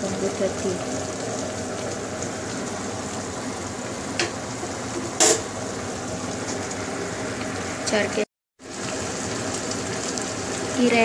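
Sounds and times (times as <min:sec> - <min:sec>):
cooking liquid simmering hiss: 0:00.0 - 0:11.0.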